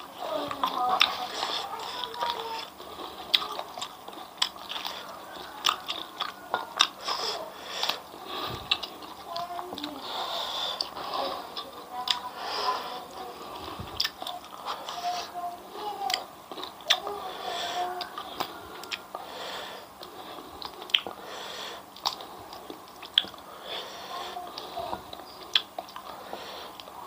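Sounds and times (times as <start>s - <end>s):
wet mouth sounds: 0.0s - 15.3s, 16.1s - 23.8s, 24.5s - 27.0s
chewing crunchy food: 0.0s - 27.0s.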